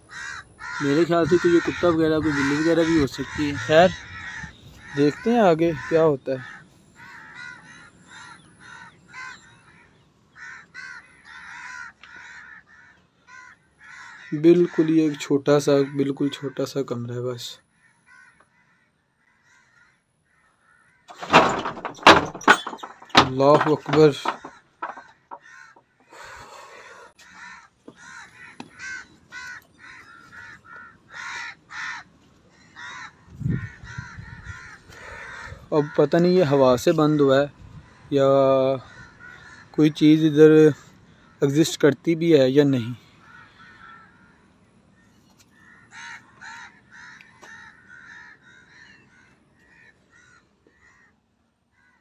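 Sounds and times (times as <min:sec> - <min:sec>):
crows cawing: 0:00.0 - 0:52.0.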